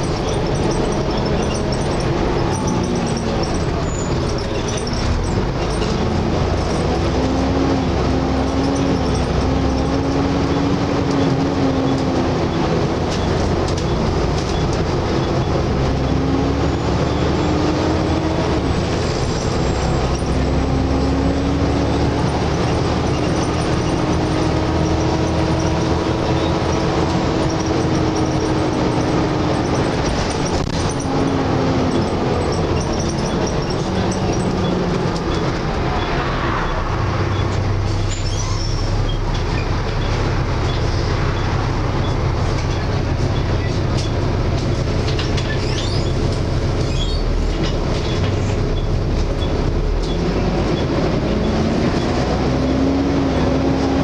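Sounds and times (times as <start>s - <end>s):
bus engine drone: 0.0s - 54.0s
bus whine: 0.0s - 54.0s
road noise: 0.0s - 54.0s.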